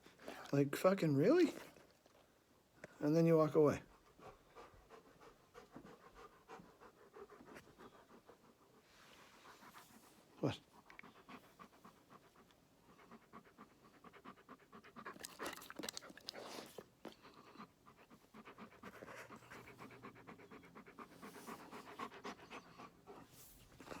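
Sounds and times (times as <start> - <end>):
dog panting: 2.9 - 24.0.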